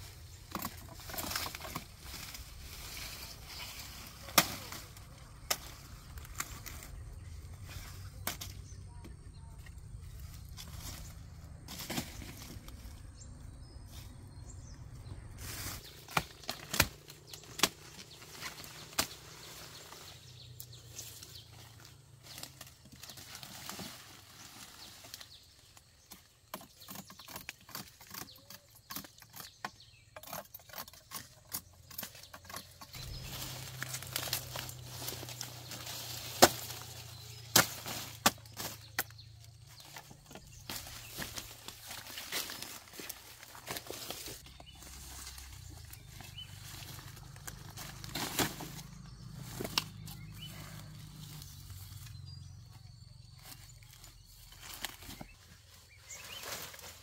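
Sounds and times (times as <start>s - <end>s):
sugarcane chopping and cracking: 0.0s - 9.2s, 10.2s - 13.0s, 15.4s - 24.2s, 24.9s - 52.7s.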